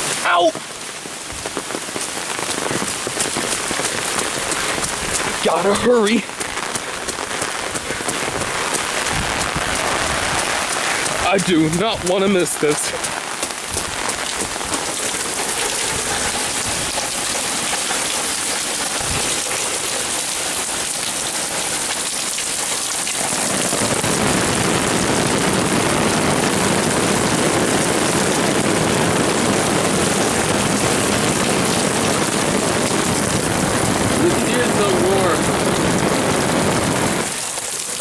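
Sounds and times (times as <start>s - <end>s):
heavy rain pouring: 0.0s - 38.0s
roaring wind: 1.2s - 22.0s, 23.0s - 37.5s.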